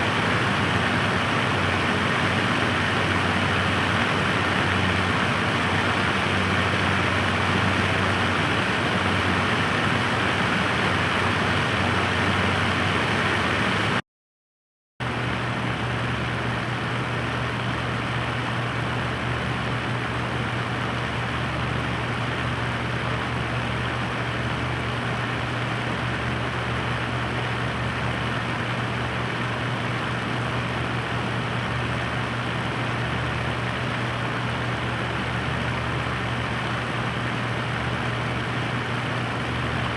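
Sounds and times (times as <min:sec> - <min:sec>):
electric fan running: 0:00.0 - 0:14.0, 0:15.0 - 0:39.9.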